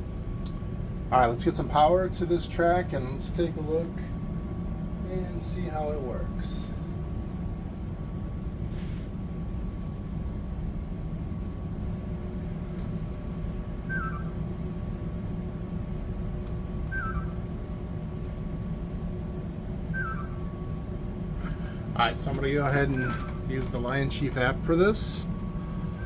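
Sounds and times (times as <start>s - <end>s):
model train hum and rumble: 0.0s - 26.0s.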